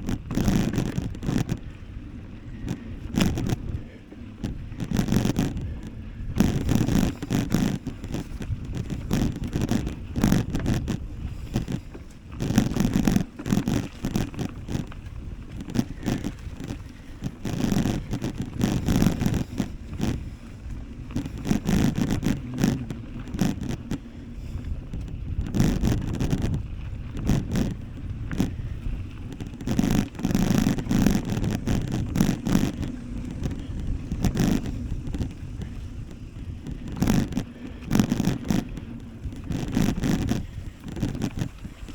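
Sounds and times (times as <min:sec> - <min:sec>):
bicycle tyre rumble: 0:00.0 - 0:41.9.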